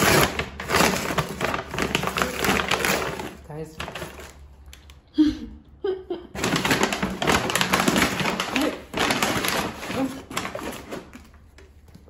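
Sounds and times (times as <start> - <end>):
paper bag rustling: 0.0 - 4.6, 6.4 - 12.0.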